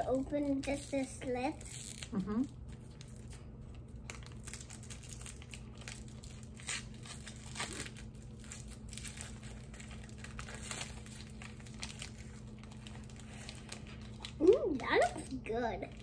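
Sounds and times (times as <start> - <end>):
candy wrappers crinkling and tearing: 0.0 - 16.0
steady low hum: 0.0 - 16.0.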